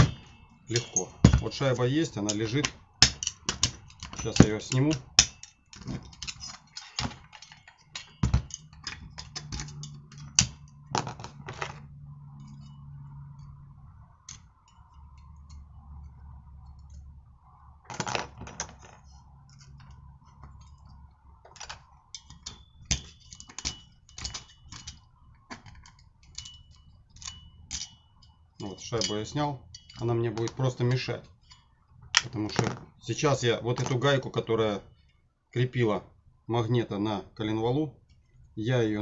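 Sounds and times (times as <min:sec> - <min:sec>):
metal tools clicking and scraping: 0:00.0 - 0:17.3, 0:17.9 - 0:35.2.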